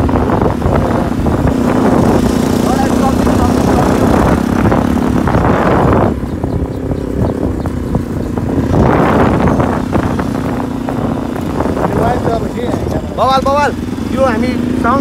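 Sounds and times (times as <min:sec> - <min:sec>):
motorbike engine running: 0:00.0 - 0:15.0
wind rushing over microphone: 0:00.0 - 0:15.0.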